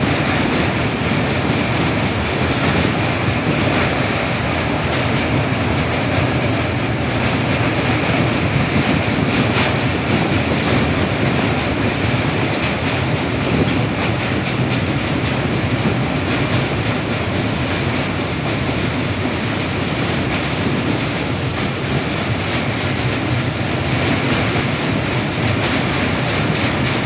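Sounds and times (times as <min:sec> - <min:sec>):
rail joints clicking: 0:00.0 - 0:27.0
train wheels rumbling on rail: 0:00.0 - 0:27.0.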